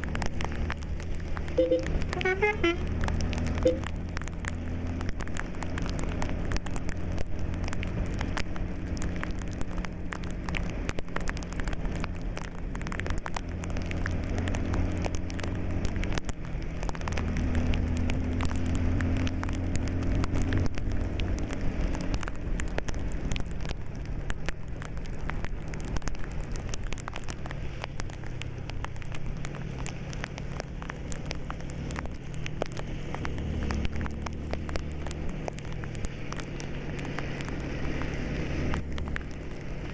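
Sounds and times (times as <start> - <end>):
raindrops striking vehicle: 0.0 - 39.9
tyres hissing on wet road: 0.0 - 39.9.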